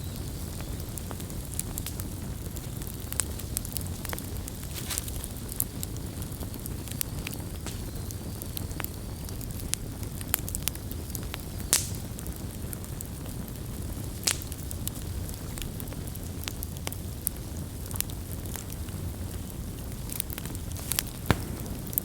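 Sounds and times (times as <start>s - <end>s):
fire popping and snapping: 0.0s - 22.0s
fire rumbling: 0.0s - 22.0s.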